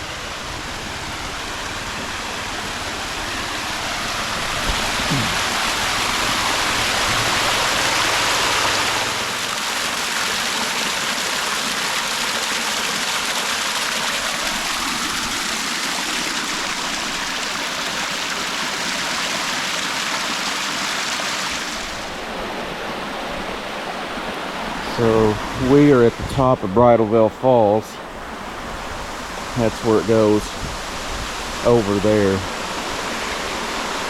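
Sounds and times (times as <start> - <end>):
creek and waterfall rushing: 0.0 - 34.0.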